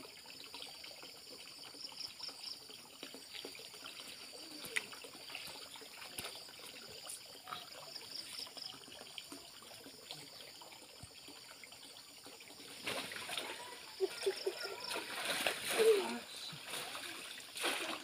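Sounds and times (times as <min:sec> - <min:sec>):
water trickling and lapping: 0:00.0 - 0:18.0
water splashing: 0:01.6 - 0:18.0.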